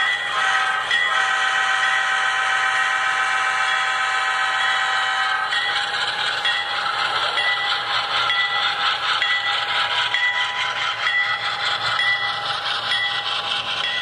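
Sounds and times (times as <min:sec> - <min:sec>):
locomotive bell ringing: 0:00.0 - 0:02.2, 0:03.6 - 0:14.0
locomotive engine running: 0:00.0 - 0:14.0.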